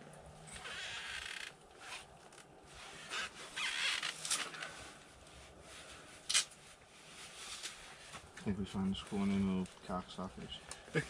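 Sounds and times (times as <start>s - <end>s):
clothing rustling and scraping: 0.1s - 11.0s.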